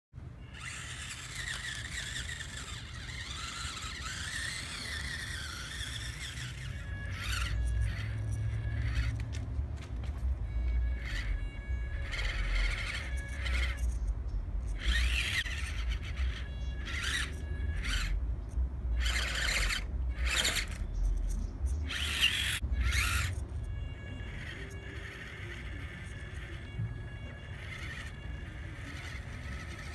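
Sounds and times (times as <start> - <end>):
tiny rc car motor whining: 0.4 - 9.5, 10.5 - 18.2, 18.9 - 29.9.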